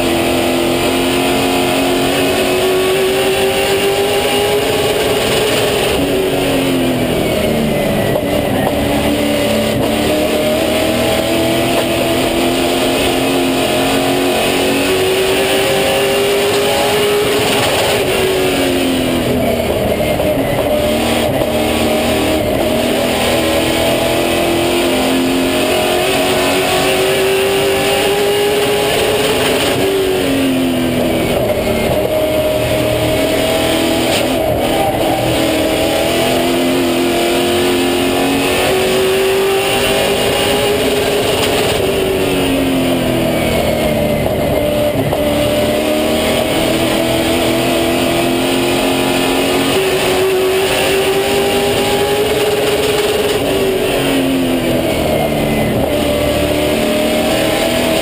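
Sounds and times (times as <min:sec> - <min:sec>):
race car engine at speed: 0:00.0 - 0:58.0.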